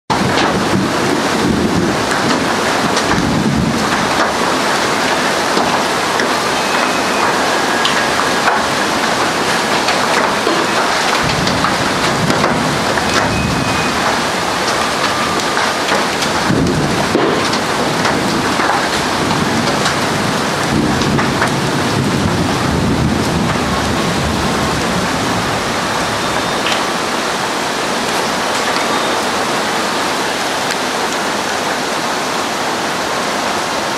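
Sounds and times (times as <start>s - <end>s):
hail and heavy rain pelting: 0.1s - 33.9s.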